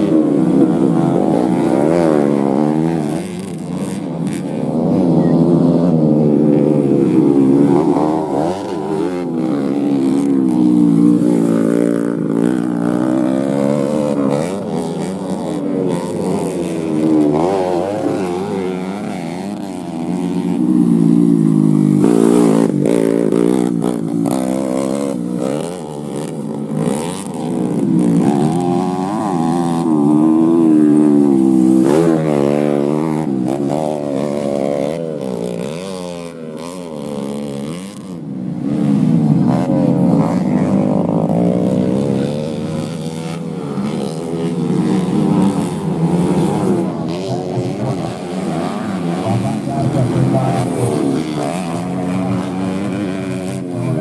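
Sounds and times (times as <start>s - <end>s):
motorcycle engines accelerating: 0.0s - 54.0s.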